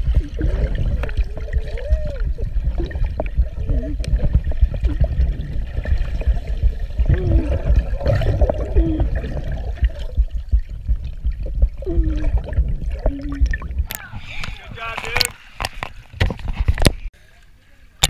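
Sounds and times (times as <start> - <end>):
muffled underwater rumble: 0.0 - 15.3.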